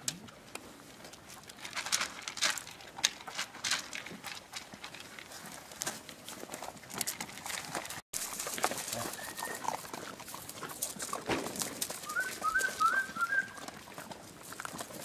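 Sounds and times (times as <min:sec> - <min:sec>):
dogs crunching dry food: 0:00.0 - 0:15.0.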